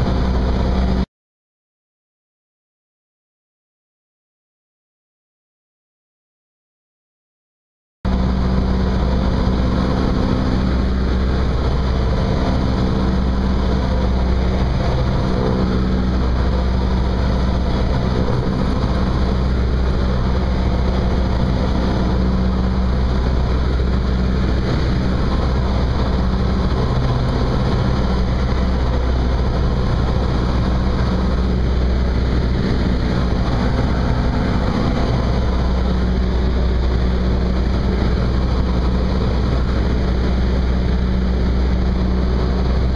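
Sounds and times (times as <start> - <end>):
propeller plane engine droning: 0.0 - 1.1, 8.1 - 42.9.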